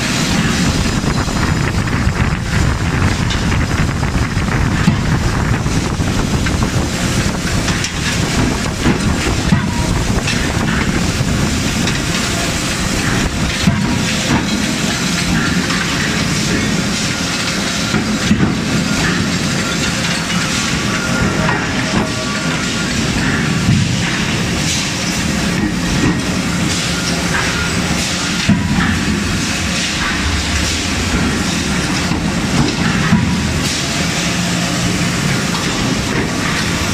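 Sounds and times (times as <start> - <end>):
machinery hiss and low rumble: 0.0 - 36.9.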